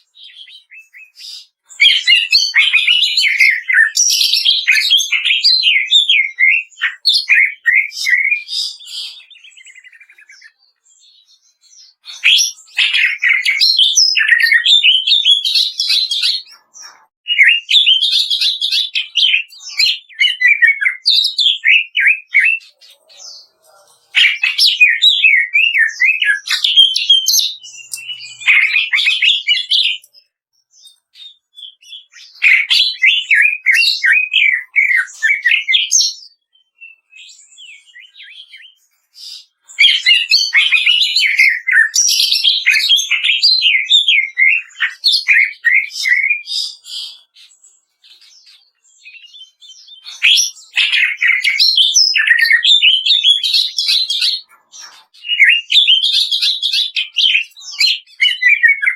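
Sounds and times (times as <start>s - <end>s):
bird chattering song: 0.0s - 58.9s.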